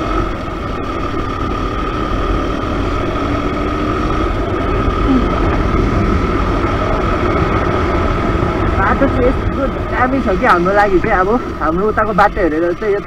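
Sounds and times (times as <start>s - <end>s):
motorcycle engine accelerating: 0.0s - 13.0s
steady high whine: 0.0s - 13.0s
wind rushing over microphone: 0.0s - 13.0s.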